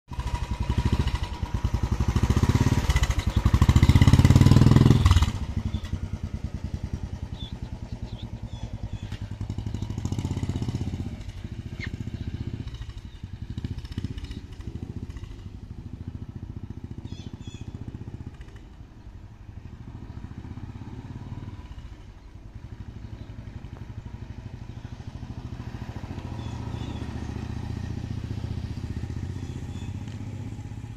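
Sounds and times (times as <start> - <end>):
motorcycle engine: 0.1 - 30.9.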